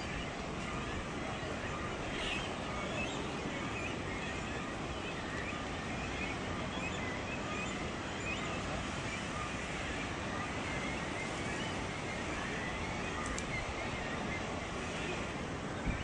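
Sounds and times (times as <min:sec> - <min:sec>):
faint bird chirps: 0:00.0 - 0:16.0
outdoor background noise: 0:00.0 - 0:16.0.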